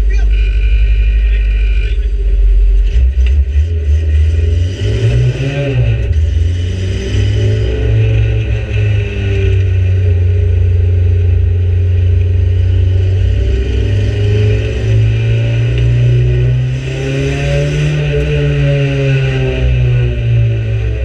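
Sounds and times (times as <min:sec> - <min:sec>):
race car engine from inside cabin: 0:00.0 - 0:21.0.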